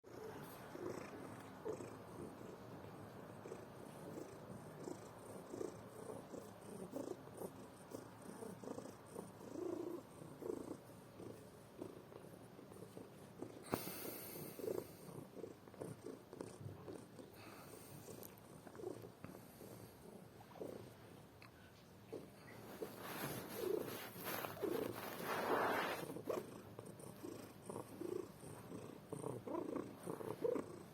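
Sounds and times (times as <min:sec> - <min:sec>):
cat snoring: 0:00.1 - 0:20.9, 0:22.1 - 0:30.9.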